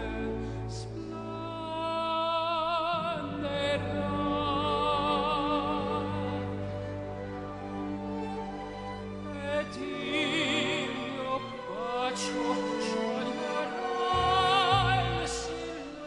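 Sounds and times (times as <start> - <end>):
operatic tenor singing: 0.0 - 16.0
orchestral backing track: 0.0 - 16.0.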